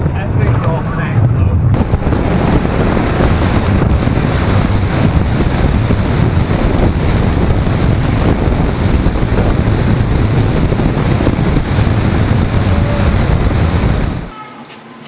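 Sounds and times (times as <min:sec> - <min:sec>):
wind buffeting the microphone: 0:00.0 - 0:14.3.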